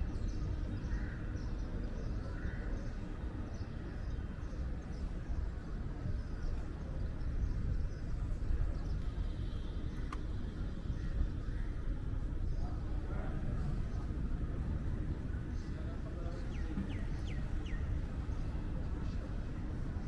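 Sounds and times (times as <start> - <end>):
wind buffeting microphone: 3.0 - 20.0.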